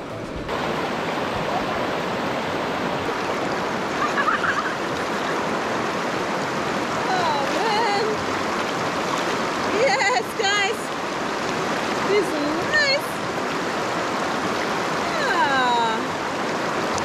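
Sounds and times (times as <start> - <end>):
river water rushing over rocks: 0.0 - 17.0.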